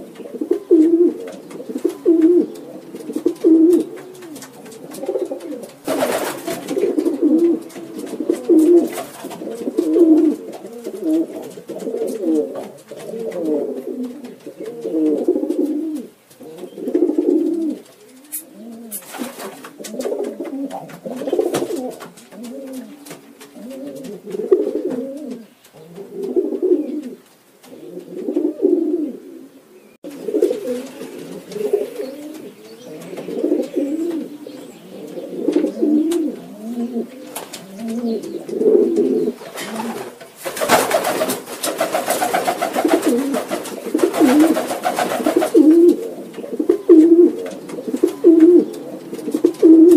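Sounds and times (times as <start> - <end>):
pigeons cooing: 0.0 - 49.9.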